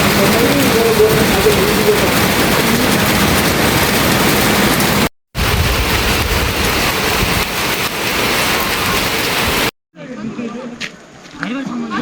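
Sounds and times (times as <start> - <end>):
heavy rain pouring: 0.0 - 9.8.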